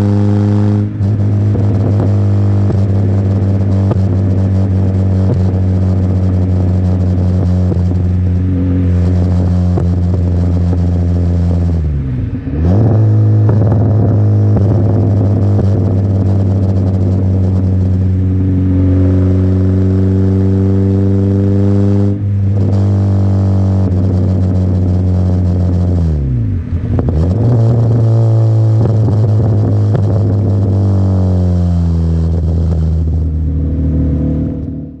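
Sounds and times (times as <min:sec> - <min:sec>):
car engine droning: 0:00.0 - 0:35.0.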